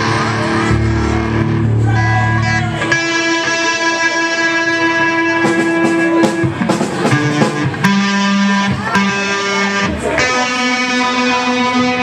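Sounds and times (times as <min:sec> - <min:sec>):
sustained guitar note: 0:00.0 - 0:06.0, 0:07.2 - 0:12.0
live band music: 0:00.0 - 0:12.0.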